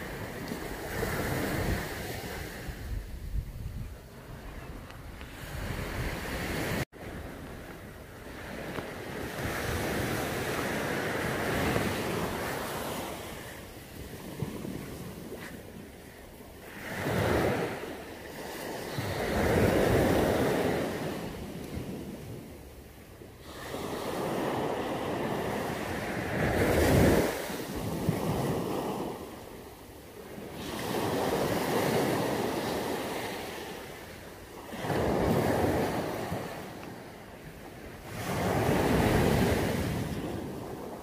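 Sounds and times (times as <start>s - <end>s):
wind on microphone: 0.0s - 22.6s, 23.4s - 29.4s, 30.4s - 41.0s
waves washing up a beach: 0.0s - 41.0s.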